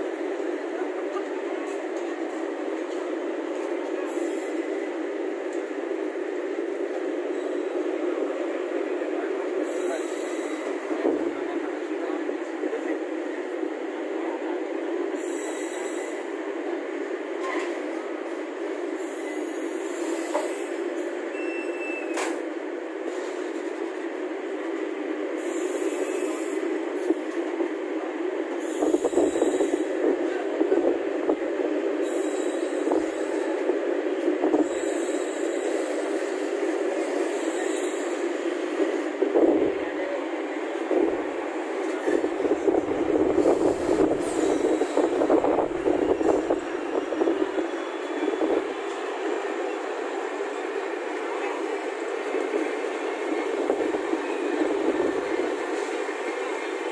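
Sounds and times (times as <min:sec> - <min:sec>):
train rumbling on track: 0:00.0 - 0:56.9.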